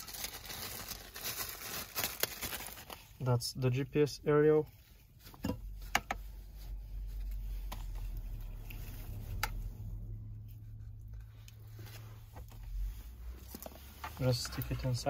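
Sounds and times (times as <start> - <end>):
cable handling clicks and rustles: 0.0 - 15.0.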